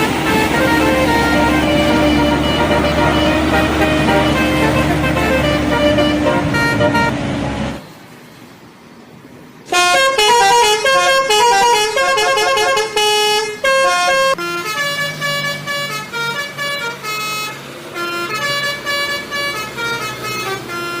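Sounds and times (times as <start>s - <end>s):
multi-tone bus horn melody: 0.0s - 7.8s, 9.7s - 21.0s.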